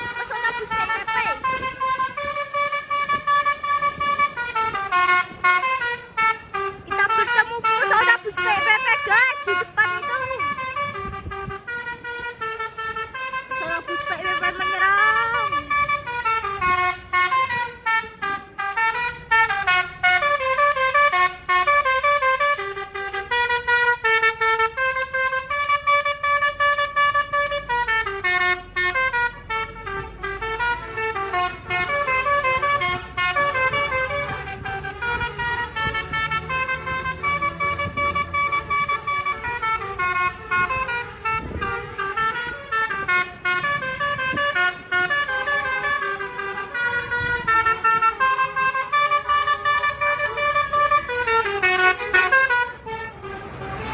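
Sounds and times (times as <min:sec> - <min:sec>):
bus musical horn melody: 0:00.0 - 0:53.9.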